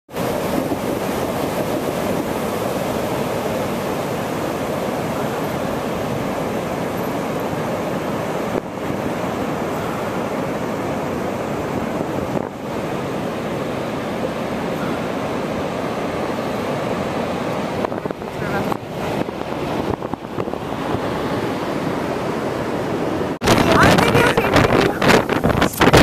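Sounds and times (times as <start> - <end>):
ocean surf breaking: 0.1 - 26.0
strong wind on microphone: 0.2 - 26.0.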